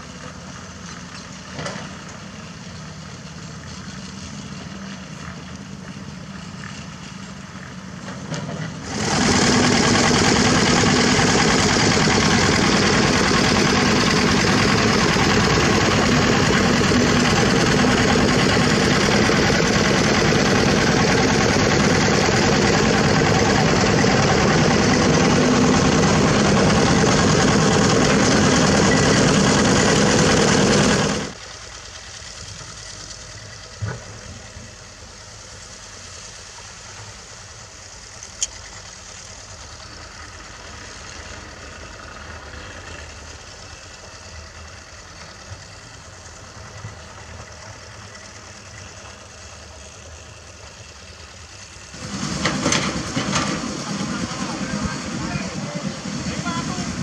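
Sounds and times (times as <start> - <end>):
diesel engine in background: 0.0 - 57.0
loud engine close by: 0.0 - 57.0.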